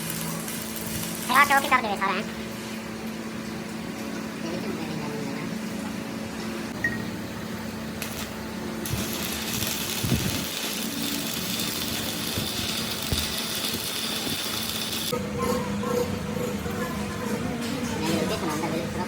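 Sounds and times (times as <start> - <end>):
workshop machinery humming: 0.0 - 19.0.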